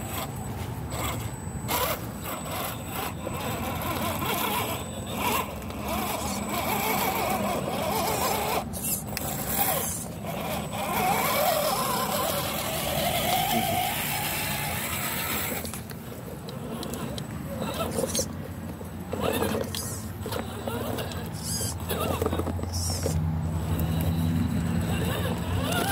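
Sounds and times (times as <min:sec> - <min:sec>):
electric motors whining: 0:00.0 - 0:25.9.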